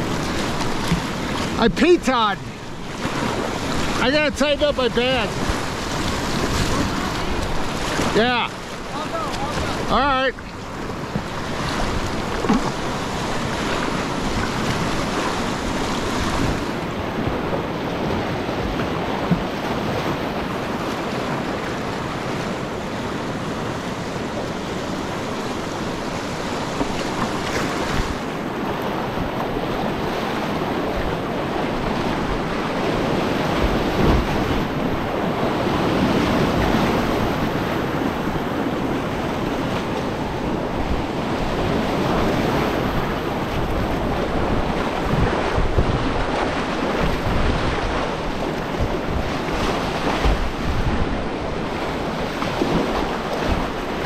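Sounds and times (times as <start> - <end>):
whitewater roaring: 0.0 - 54.0.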